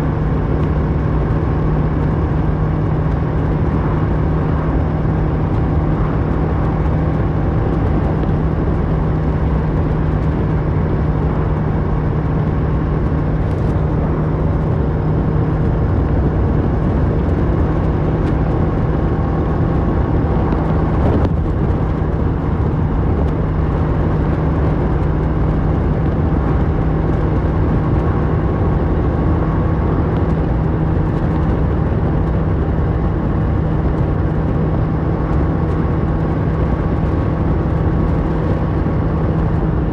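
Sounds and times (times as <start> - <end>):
motorcycle engine droning: 0.0 - 39.9
road rush: 0.0 - 39.9.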